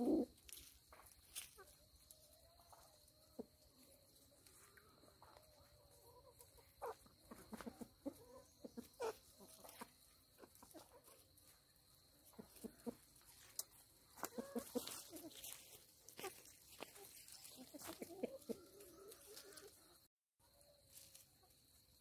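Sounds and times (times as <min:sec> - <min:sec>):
chickens clucking softly: 0:00.0 - 0:22.0.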